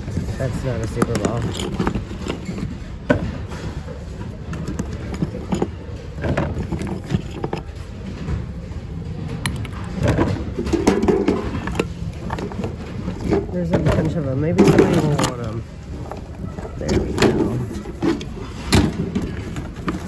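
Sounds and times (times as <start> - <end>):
plastic and glass items clattering: 0.0 - 20.0
store background hum: 0.0 - 20.0.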